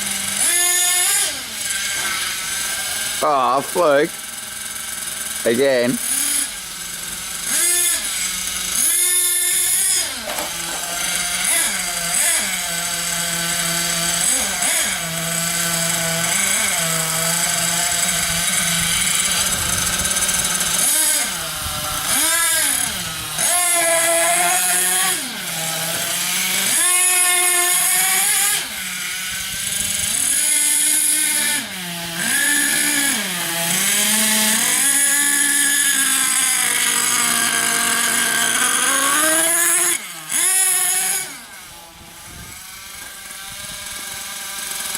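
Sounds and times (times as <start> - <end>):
small nitro engine revving: 0.0 - 44.9.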